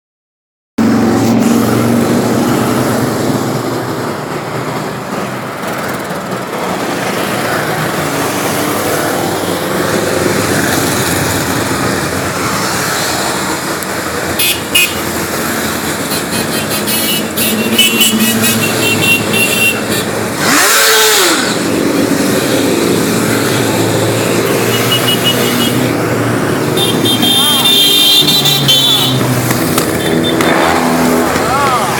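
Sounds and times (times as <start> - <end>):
motorcycle engines running: 0.8 - 31.9.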